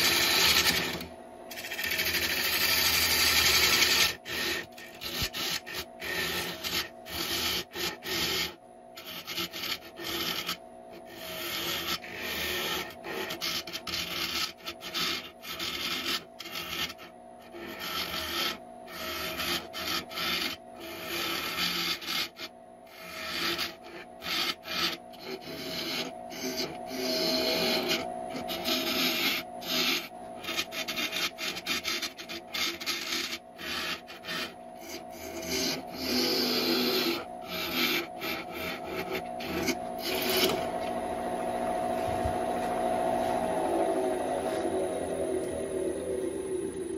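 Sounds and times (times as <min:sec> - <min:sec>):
lathe motor hum: 0:00.0 - 0:46.9
wood lathe turning tool rasping: 0:00.0 - 0:46.9.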